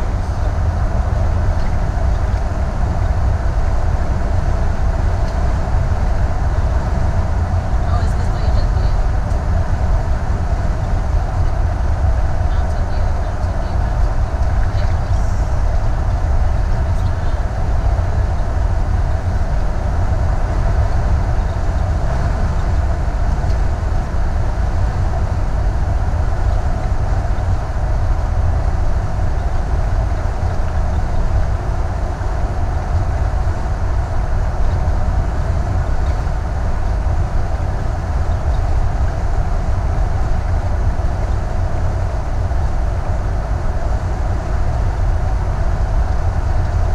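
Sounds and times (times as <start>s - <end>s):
hum: 0.0s - 46.9s
road and drivetrain rumble: 0.0s - 46.9s.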